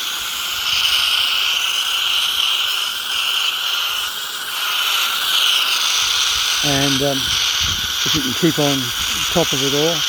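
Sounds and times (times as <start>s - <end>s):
washing wand spray hissing: 0.0s - 10.0s.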